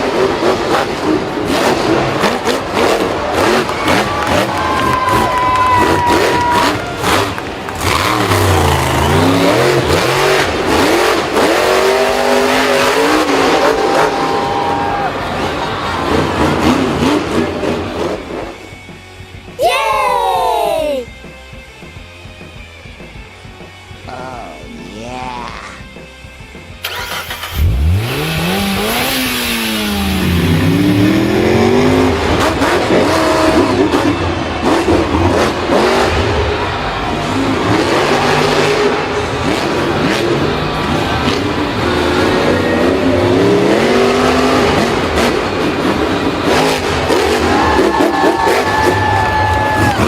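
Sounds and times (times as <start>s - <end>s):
engine revving: 0.0s - 19.4s, 26.8s - 50.0s.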